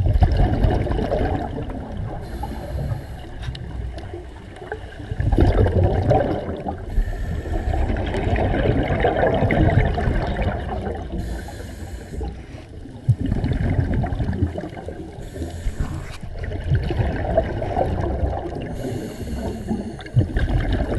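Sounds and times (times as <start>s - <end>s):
bubbles rumbling and gurgling: 0.0s - 20.9s.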